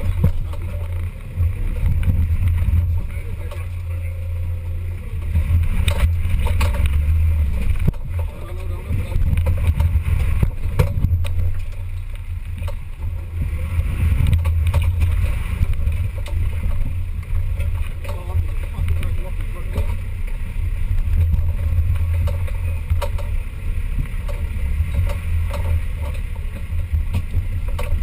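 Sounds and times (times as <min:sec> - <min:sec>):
knocks and clunks: 0:00.0 - 0:28.0
off-road vehicle engine under load: 0:00.0 - 0:28.0.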